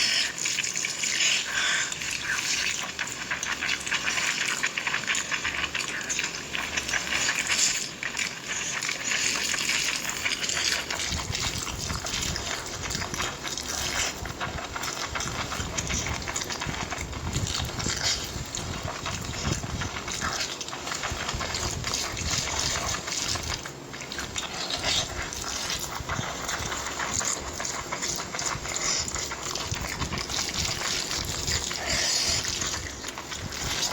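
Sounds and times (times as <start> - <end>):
wet chewing and smacking: 0.0 - 33.9.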